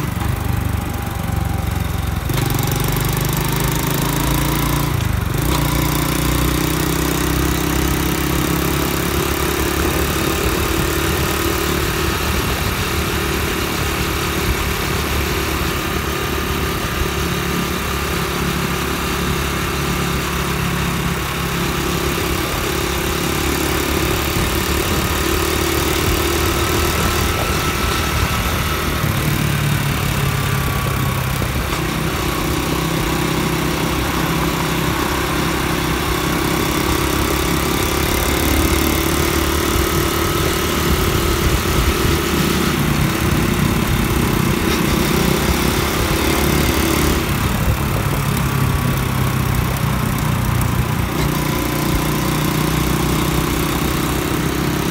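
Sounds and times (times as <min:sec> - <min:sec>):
motorbike engine running: 0:00.0 - 0:54.9
wind and road noise: 0:00.0 - 0:54.9.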